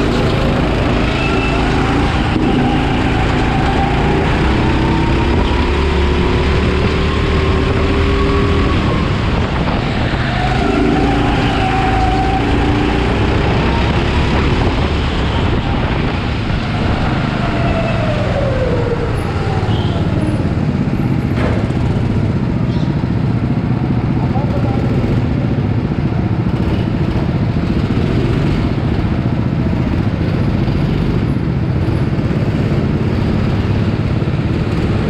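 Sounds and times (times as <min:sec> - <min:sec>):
kart engine under load: 0:00.0 - 0:35.0
other kart engines: 0:00.0 - 0:35.0.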